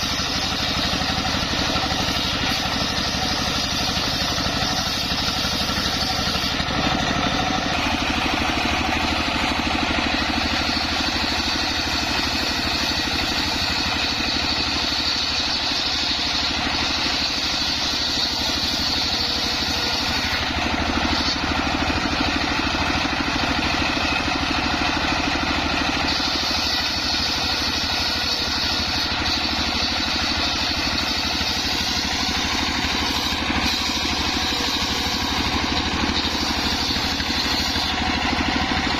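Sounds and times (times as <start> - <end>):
saw blade whining through wood: 0.0 - 38.9
saw engine running: 0.0 - 38.9.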